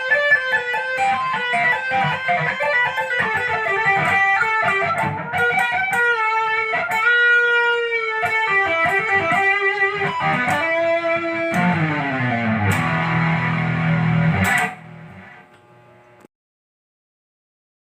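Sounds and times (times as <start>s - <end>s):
electric guitar lead lines: 0.0s - 16.3s.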